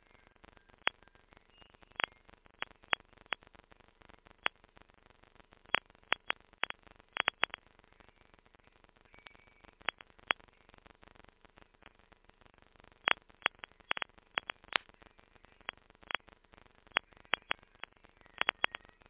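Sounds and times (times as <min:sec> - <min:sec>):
digital clicks and crackles: 0:00.4 - 0:08.1, 0:08.8 - 0:19.0.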